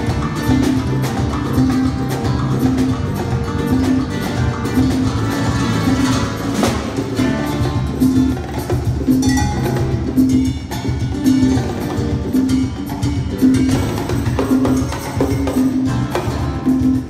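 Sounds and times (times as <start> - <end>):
acoustic guitar: 0.0 - 17.0
conga and bongos: 0.0 - 17.0.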